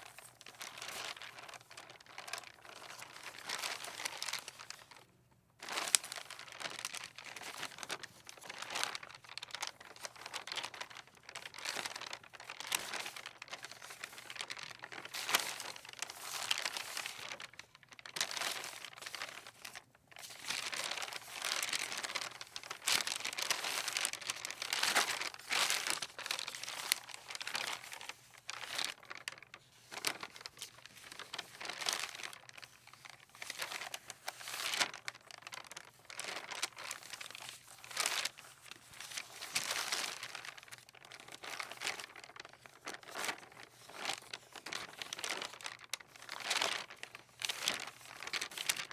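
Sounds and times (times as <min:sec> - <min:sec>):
paper rustling in wind: 0:00.0 - 0:48.9.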